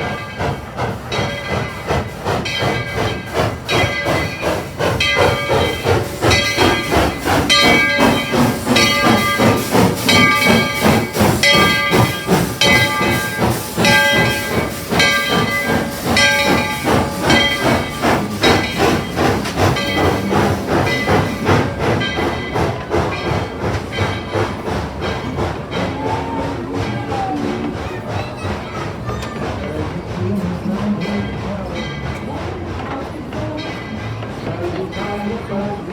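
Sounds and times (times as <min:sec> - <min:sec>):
hissing steam: 0:00.0 - 0:35.9
steam locomotive exhaust chuffs: 0:00.0 - 0:35.9.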